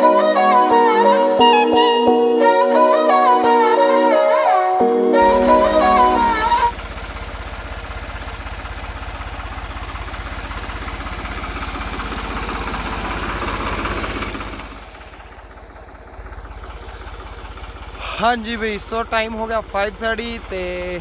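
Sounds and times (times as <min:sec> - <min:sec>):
tractor diesel engine chugging: 0:00.0 - 0:21.0.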